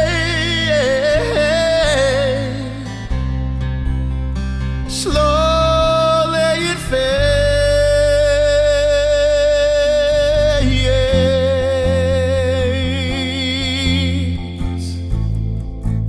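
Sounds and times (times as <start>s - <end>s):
person singing: 0.0s - 3.2s, 4.9s - 15.3s.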